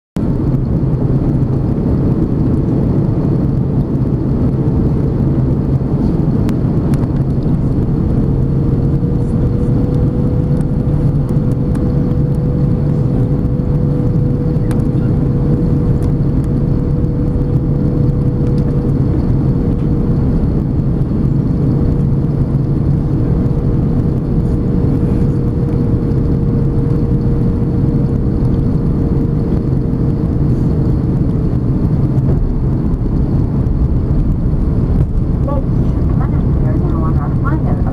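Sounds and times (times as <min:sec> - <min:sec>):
rush of air: 0:00.2 - 0:36.8
jet engine drone: 0:00.2 - 0:37.9
steady whine: 0:00.2 - 0:37.9.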